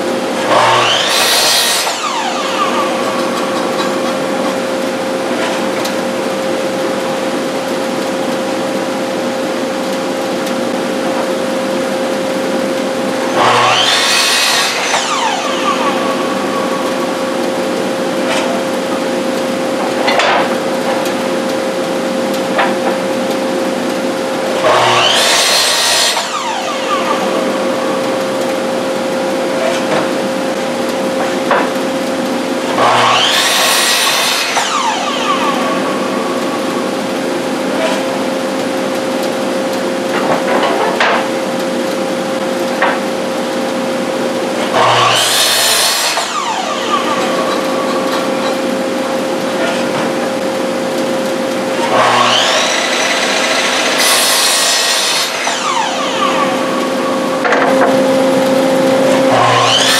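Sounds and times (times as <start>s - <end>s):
miter saw cutting wood: 0.0s - 41.3s, 44.5s - 59.9s
machine hum: 0.0s - 59.9s.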